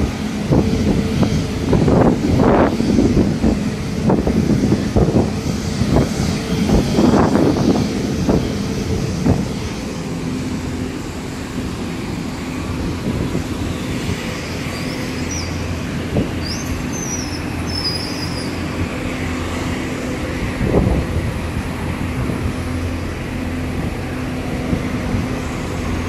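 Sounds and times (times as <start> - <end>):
faint high whine: 0.0 - 26.0
ground vehicle engine hum: 0.0 - 26.0.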